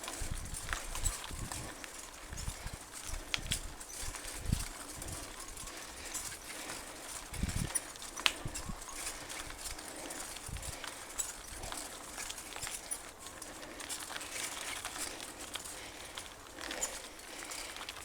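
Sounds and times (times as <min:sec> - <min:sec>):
bike clicks and rattles: 0:00.0 - 0:18.0
bike tyres crunching on dirt: 0:00.0 - 0:18.0.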